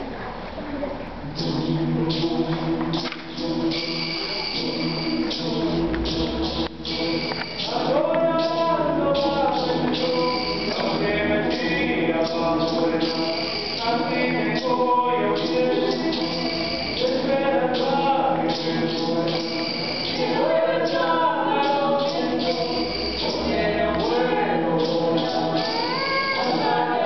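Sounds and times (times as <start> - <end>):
mixed choir singing: 1.4 - 27.0.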